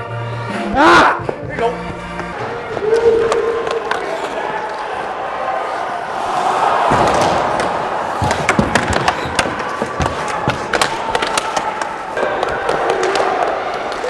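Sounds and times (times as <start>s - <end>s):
hockey sticks and puck clacking: 0.7s - 14.0s
skate blades scraping ice: 1.6s - 14.0s.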